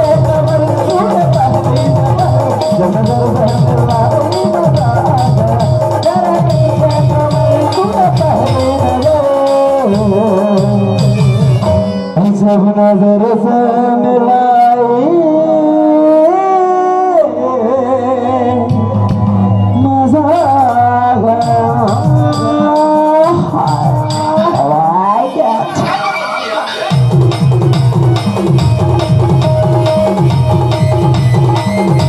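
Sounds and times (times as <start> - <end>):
dholak drumming: 0.0 - 14.8, 18.5 - 32.0
keyboard melody: 0.0 - 32.0.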